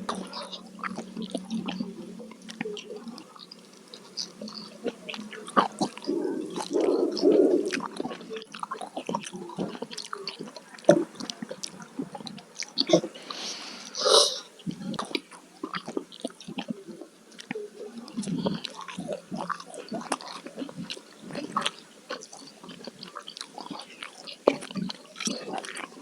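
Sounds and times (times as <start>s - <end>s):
wet chewing with crunches: 0.0s - 26.0s.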